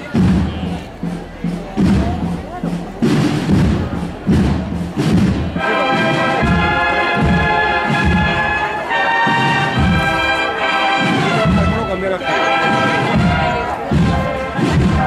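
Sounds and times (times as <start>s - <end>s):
bass drum beating: 0.0s - 15.0s
wind instruments holding chords: 0.0s - 15.0s.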